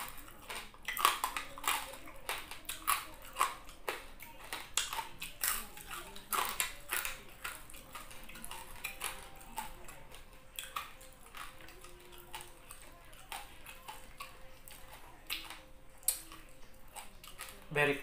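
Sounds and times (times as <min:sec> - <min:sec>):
chewing: 0:00.0 - 0:18.0.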